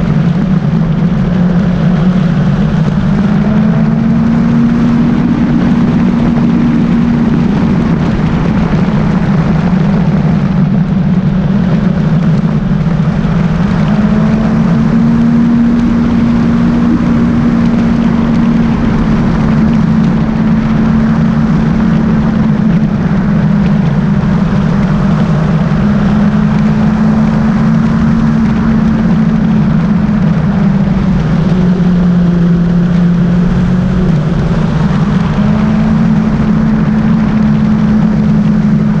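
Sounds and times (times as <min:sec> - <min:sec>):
motorcycle engine cruising: 0:00.0 - 0:39.0
road noise: 0:00.0 - 0:39.0
wind noise: 0:00.0 - 0:39.0.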